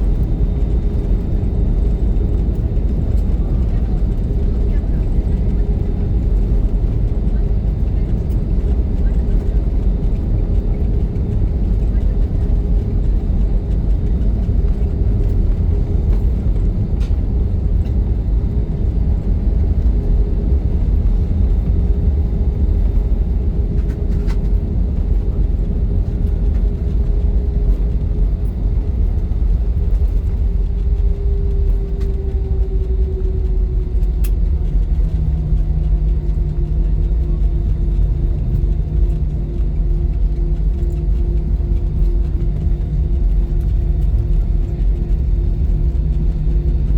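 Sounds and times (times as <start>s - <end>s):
aircraft cabin engine rumble: 0.0s - 46.9s.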